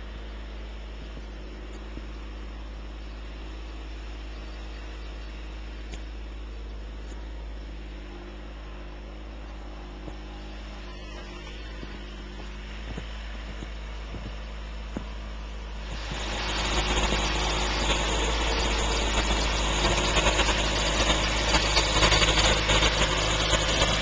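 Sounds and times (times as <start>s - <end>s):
plow blade scraping driveway: 0.0s - 24.0s
snow plow engine: 0.0s - 24.0s.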